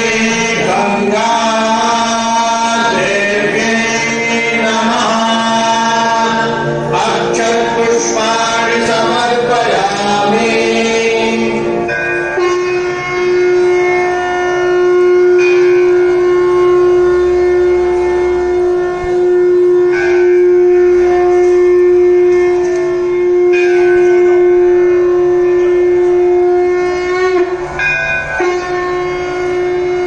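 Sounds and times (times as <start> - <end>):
conch shell blown: 0.0 - 30.0.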